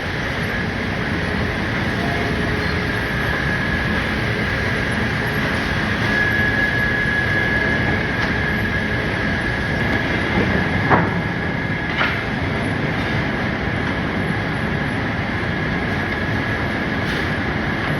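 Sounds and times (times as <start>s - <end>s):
sawmill machinery rumbling: 0.0s - 17.7s
high-pitched machine whine: 0.0s - 17.9s.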